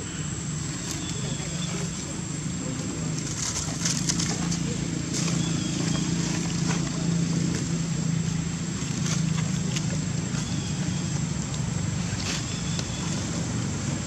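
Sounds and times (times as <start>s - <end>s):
vehicle engine idling hum: 0.0s - 14.0s
dry leaves rustling: 0.1s - 14.0s.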